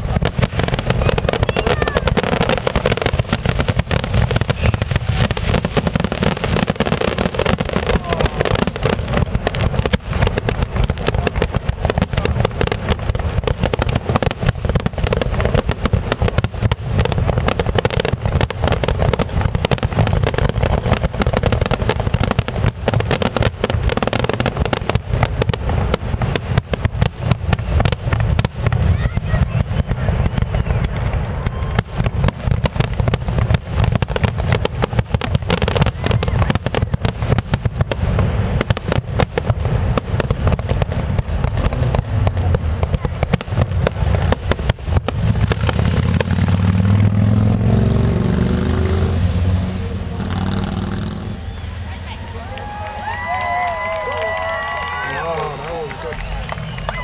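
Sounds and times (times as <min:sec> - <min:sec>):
fireworks barrage: 0:00.0 - 0:57.0.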